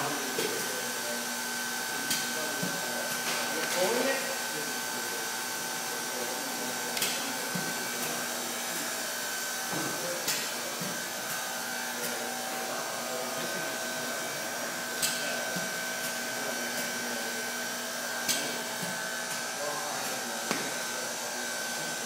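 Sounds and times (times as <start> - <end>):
machinery hiss and whir: 0.0 - 22.0.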